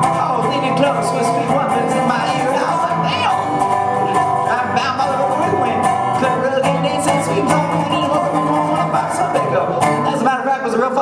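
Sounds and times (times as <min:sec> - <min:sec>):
man singing: 0:00.0 - 0:11.0
resonator guitar strumming: 0:00.0 - 0:11.0.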